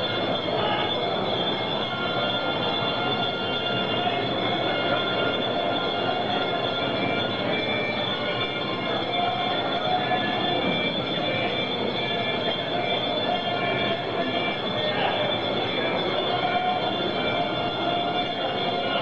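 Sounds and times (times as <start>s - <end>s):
crowd din in market hall: 0.0s - 19.0s
high metallic ringing tones: 0.0s - 19.0s.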